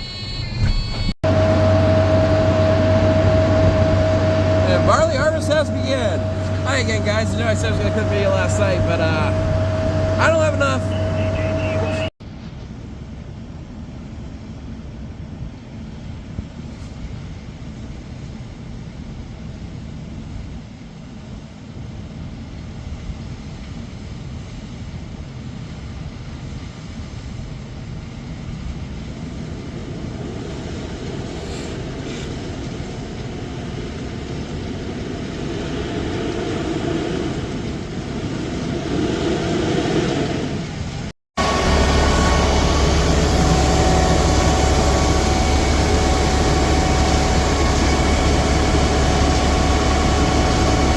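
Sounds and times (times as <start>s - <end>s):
heavy engine running: 0.0s - 18.8s, 26.0s - 50.9s.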